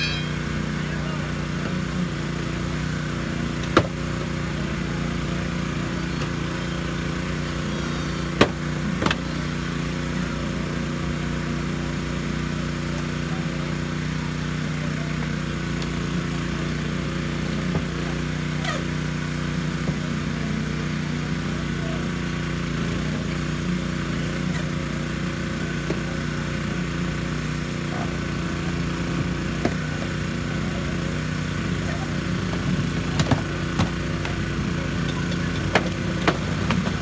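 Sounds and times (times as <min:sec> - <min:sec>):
small gasoline engine running: 0:00.0 - 0:37.0.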